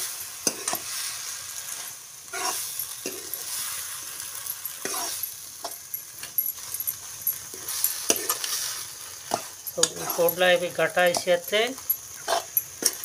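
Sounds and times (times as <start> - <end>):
curry sizzling in a pan: 0.0 - 13.0
spatula scraping a pan: 0.4 - 11.4, 12.0 - 13.0.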